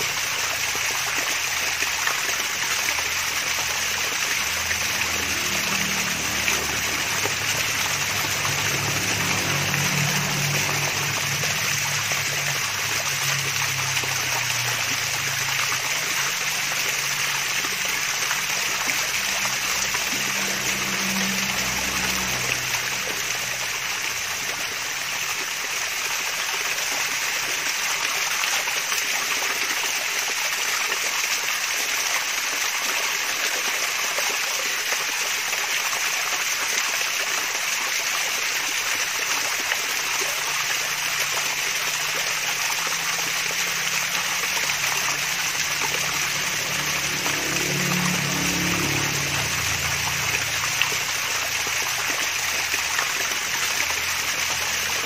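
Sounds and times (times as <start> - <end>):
water splashing over small waterfall: 0.0 - 55.0.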